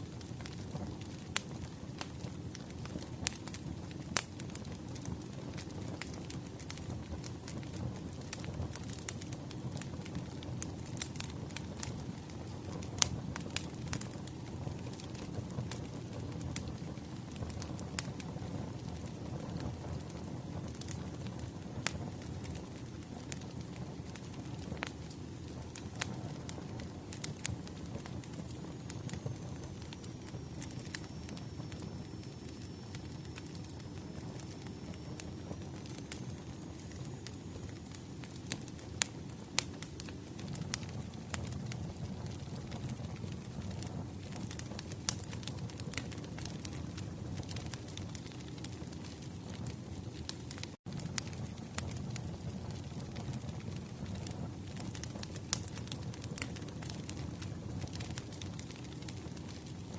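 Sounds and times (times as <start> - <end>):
sharp pops from fire: 0.0 - 59.9
wood fire crackling: 0.0 - 59.9.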